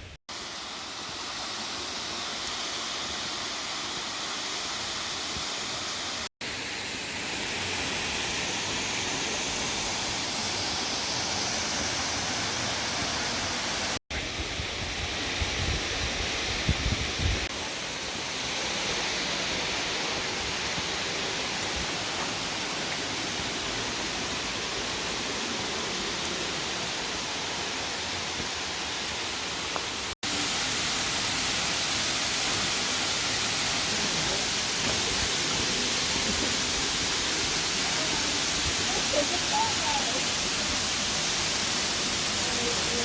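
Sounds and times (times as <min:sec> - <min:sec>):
waterfall roaring: 0:00.4 - 0:14.0, 0:17.5 - 0:43.0.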